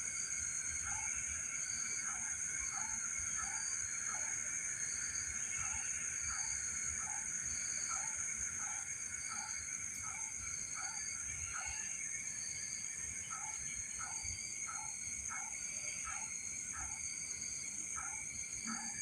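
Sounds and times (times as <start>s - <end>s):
frogs calling: 0.3s - 19.0s.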